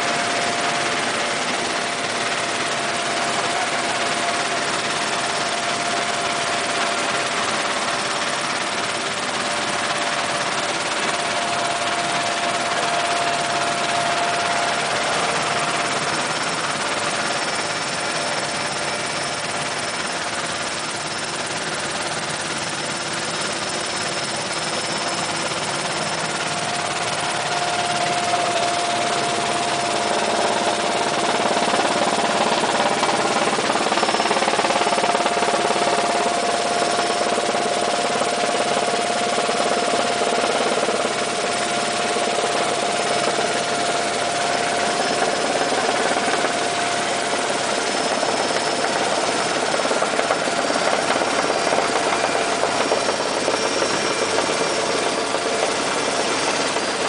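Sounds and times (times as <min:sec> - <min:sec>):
helicopter engine drone: 0:00.0 - 0:57.0.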